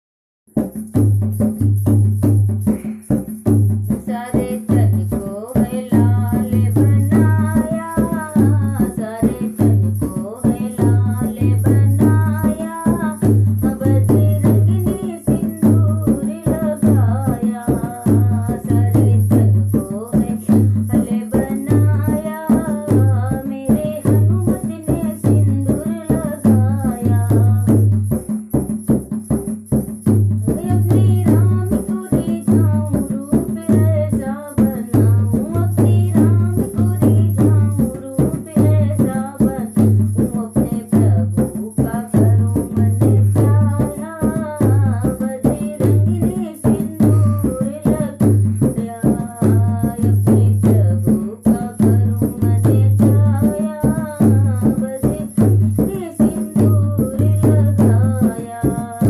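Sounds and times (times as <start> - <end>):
rattling percussion: 0.5 - 59.0
rhythmic drum beat: 0.5 - 59.0
woman singing devotional song: 1.7 - 59.0.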